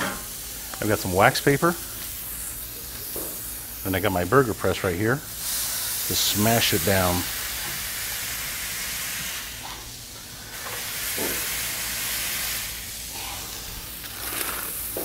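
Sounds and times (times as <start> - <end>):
burger patty sizzling on griddle: 0.0 - 15.0.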